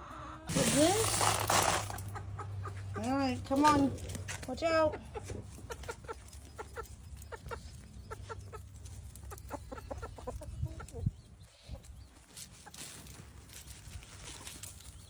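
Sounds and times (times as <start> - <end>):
hens clucking: 0.0 - 13.4.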